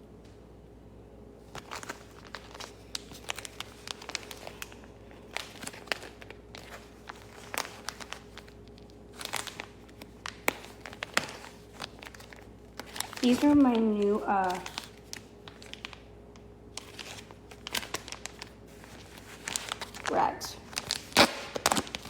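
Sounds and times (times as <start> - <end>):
plastic packaging crinkling: 1.4 - 22.0.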